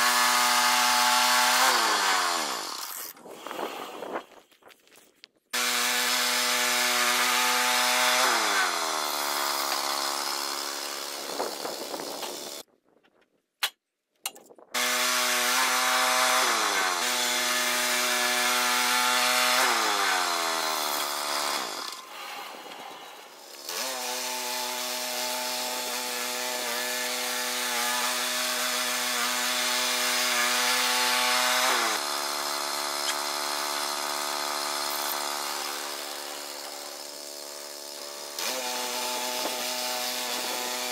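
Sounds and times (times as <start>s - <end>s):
small gasoline engine running hard: 0.0s - 2.9s, 5.6s - 12.6s, 14.8s - 40.9s
bandsaw blade cutting log: 0.0s - 4.2s, 5.6s - 12.7s, 14.8s - 40.9s.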